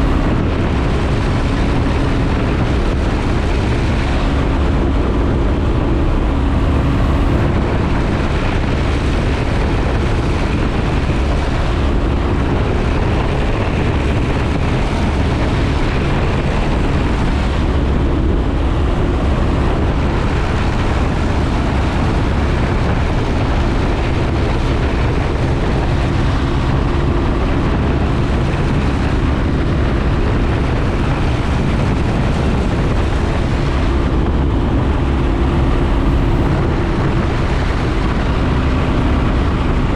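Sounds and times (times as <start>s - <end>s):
small plane engine droning: 0.0s - 39.9s.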